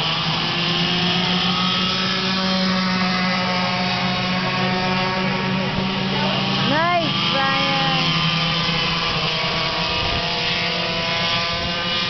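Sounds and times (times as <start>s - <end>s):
go-kart engines racing: 0.0s - 12.0s.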